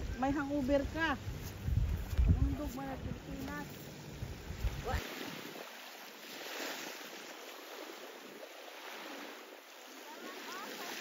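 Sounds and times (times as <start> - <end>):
small waves on sandy beach: 0.0 - 11.0
wind rumble on microphone: 0.0 - 11.0.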